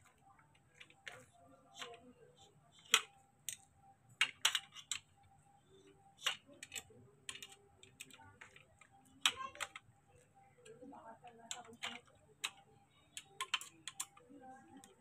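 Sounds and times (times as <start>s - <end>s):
plastic parts being handled: 0.0s - 15.0s.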